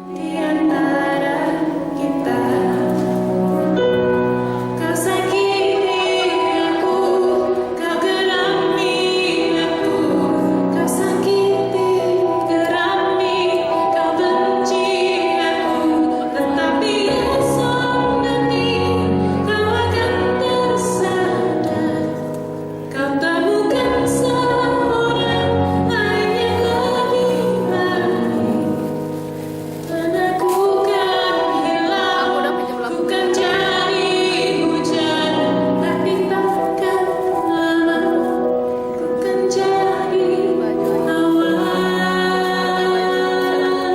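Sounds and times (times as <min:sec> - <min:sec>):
electric piano chords: 0:00.0 - 0:43.9
woman singing: 0:00.0 - 0:43.9.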